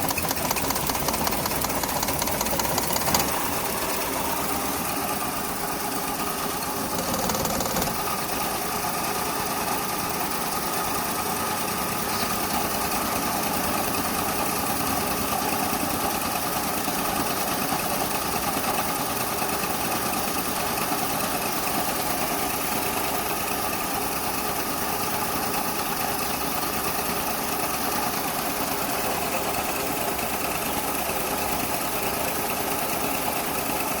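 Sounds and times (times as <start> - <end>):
car engine idling with misfire: 0.0 - 34.0.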